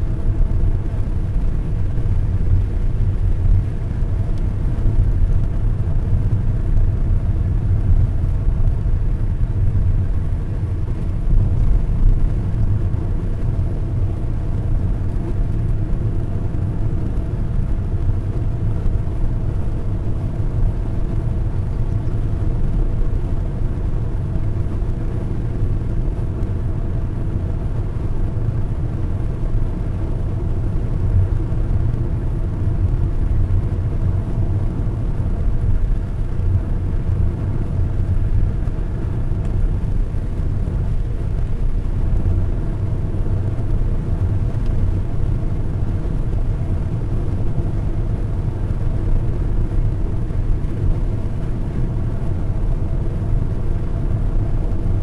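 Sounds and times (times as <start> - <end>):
car engine and tyre rumble: 0.0 - 55.0
faint steady hum: 0.0 - 55.0.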